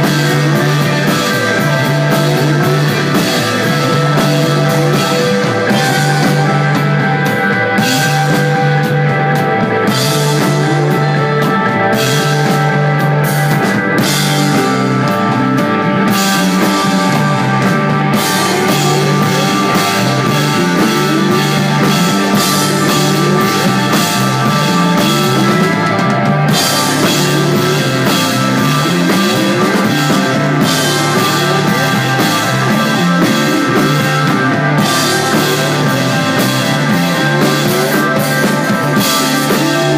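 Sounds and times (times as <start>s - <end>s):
drum kit: 0.0s - 39.9s
held guitar tones: 0.0s - 39.9s
repeating bass line: 0.0s - 39.9s.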